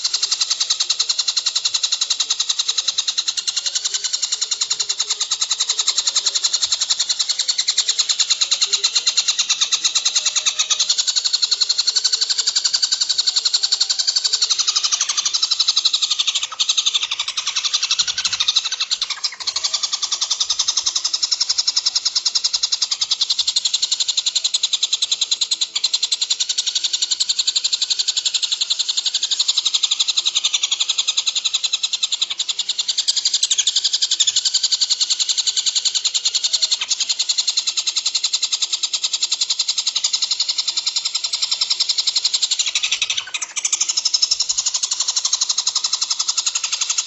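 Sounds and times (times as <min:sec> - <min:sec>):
songbird rapid chatter: 0:00.0 - 0:47.0.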